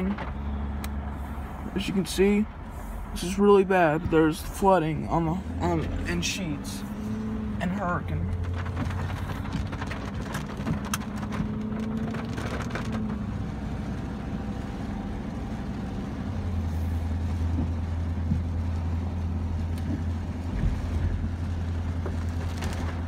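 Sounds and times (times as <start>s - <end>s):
road noise: 0.0s - 23.0s
truck engine drone: 0.0s - 23.0s.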